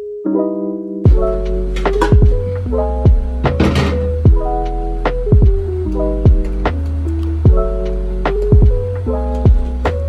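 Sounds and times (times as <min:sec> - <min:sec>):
held keyboard chords: 0:00.0 - 0:10.0
deep kick drum beat: 0:01.1 - 0:06.8, 0:07.5 - 0:09.9.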